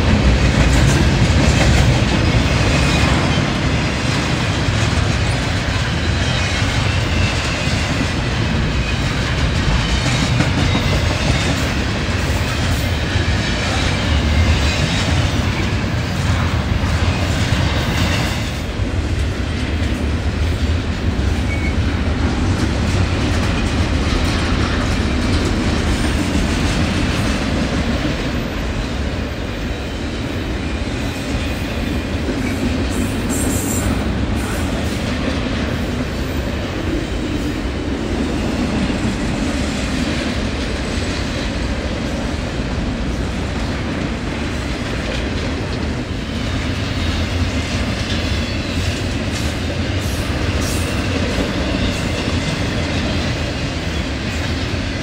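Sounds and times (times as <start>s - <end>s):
train wheels clacking over rail joints: 0.0s - 55.0s.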